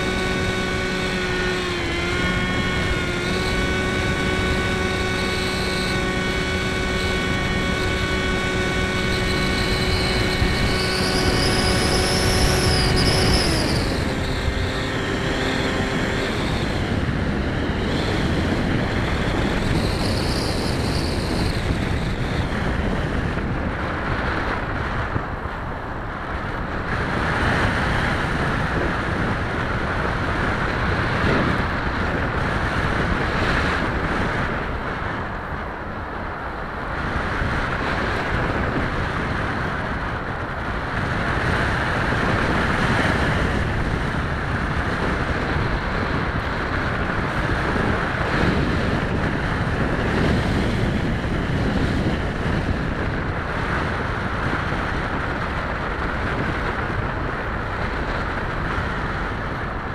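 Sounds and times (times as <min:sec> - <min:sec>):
propeller motor running: 0:00.0 - 0:59.9
wind rushing over microphone: 0:00.0 - 0:59.9.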